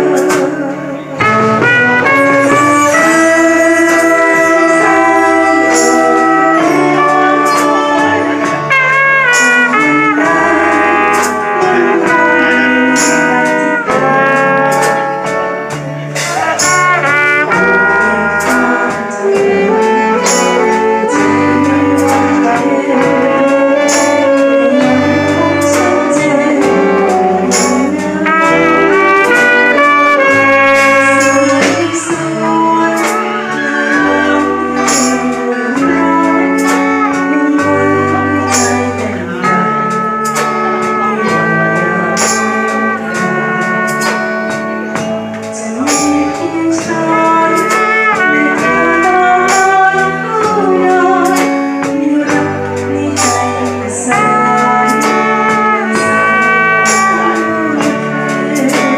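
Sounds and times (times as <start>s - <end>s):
alto saxophone melody: 0.0s - 58.9s
bass notes: 0.0s - 58.9s.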